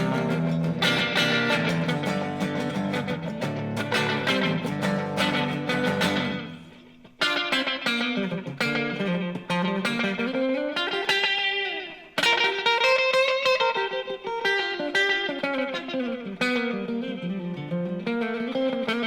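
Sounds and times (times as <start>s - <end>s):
electric guitar with delay echoes: 0.0s - 19.0s.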